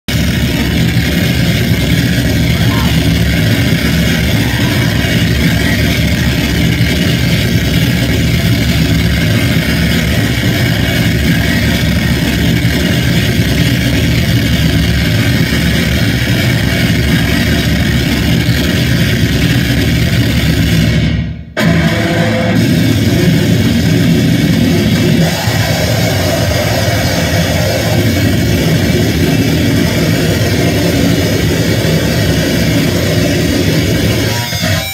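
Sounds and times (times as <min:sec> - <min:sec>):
harsh noise music: 0:00.0 - 0:34.9.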